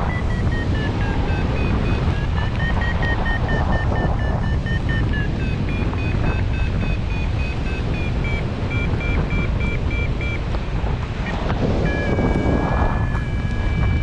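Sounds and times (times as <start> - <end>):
variometer beeping: 0.0 - 14.0
wind rushing over microphone: 0.0 - 14.0.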